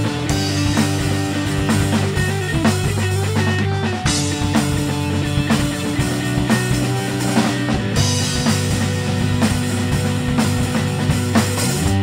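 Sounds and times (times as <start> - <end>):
rock music with drums and guitar: 0.0 - 12.0.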